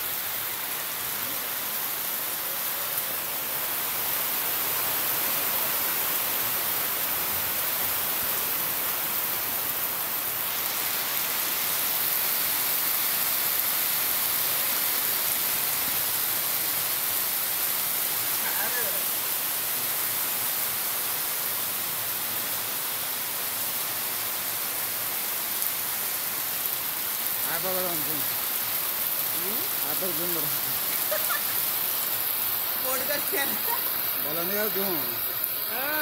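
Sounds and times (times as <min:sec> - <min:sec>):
heavy rain on a street: 0:00.0 - 0:36.0.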